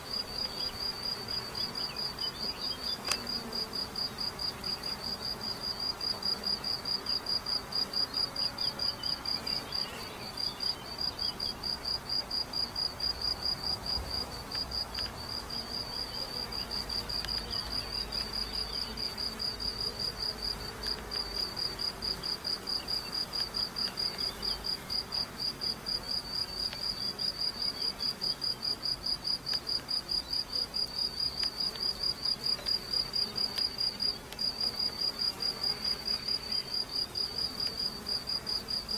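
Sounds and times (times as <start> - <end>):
bees buzzing faintly: 0.0 - 38.9
cricket chirping: 0.0 - 38.9.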